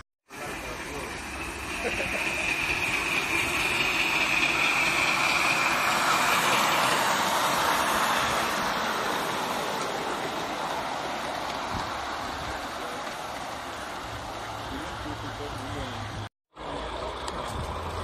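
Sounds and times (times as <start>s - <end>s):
miniature train rumbling past: 0.3s - 18.0s.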